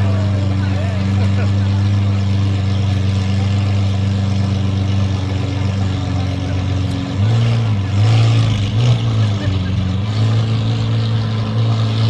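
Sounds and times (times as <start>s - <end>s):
sports car engine idling: 0.0s - 12.0s.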